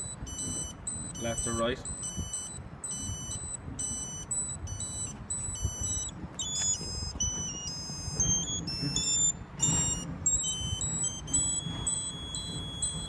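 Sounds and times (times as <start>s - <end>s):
electronic pointing beeps: 0.0s - 13.0s.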